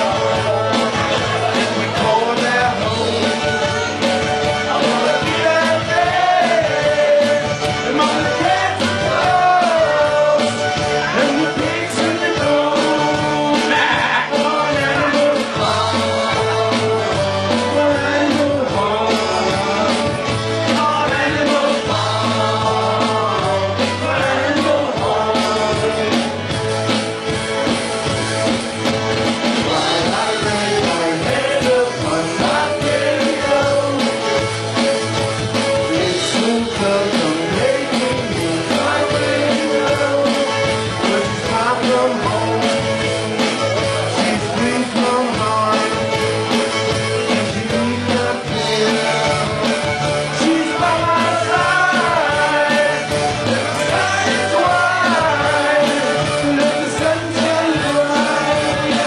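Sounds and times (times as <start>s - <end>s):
man singing: 0.0s - 27.0s, 29.4s - 59.0s
live rock band playing: 0.0s - 59.0s.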